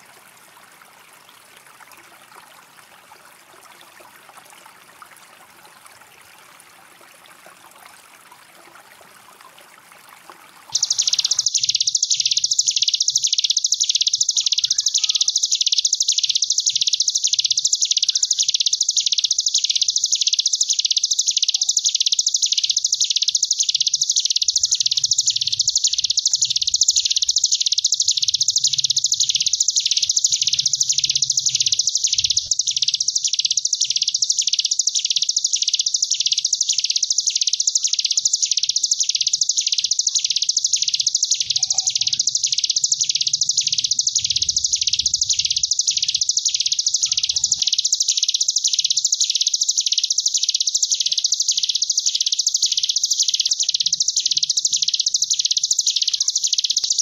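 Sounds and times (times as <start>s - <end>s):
bird buzzing trill: 10.8s - 57.0s.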